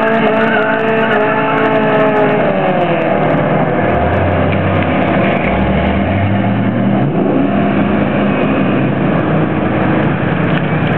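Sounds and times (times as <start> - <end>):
steady rushing noise: 0.0 - 10.9.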